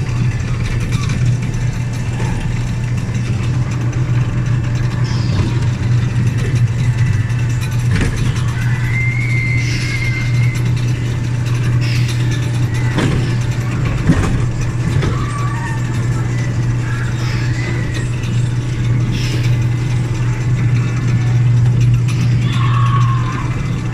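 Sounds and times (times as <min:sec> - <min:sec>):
train engine drone: 0:00.0 - 0:23.9.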